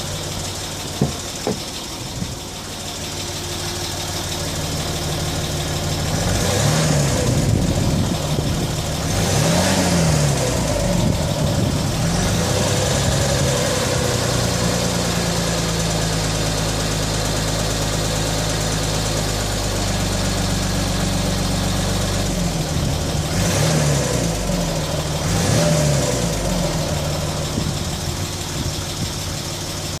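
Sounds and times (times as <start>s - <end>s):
diesel engine revving: 0.0s - 30.0s
engine ticking: 0.0s - 30.0s.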